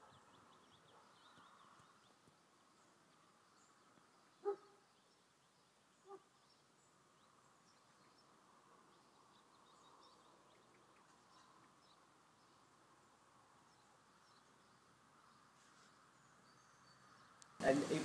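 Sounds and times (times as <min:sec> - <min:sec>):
faint bird chirps: 0:00.0 - 0:12.8, 0:13.6 - 0:17.6.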